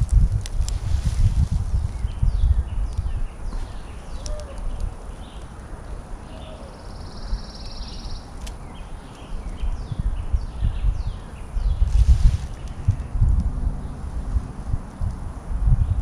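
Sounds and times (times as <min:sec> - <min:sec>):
small birds chirping: 0:00.0 - 0:16.0
wind rumble on microphone: 0:00.0 - 0:16.0.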